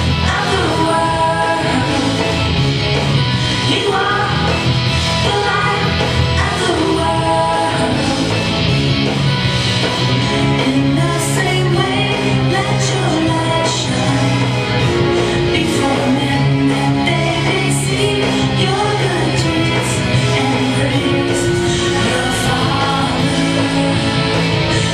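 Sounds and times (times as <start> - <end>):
singing over upbeat band: 0.0 - 24.9.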